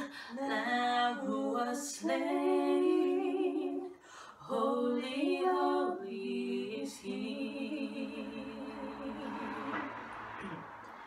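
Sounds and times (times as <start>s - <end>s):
two women singing a cappella: 0.0s - 10.4s.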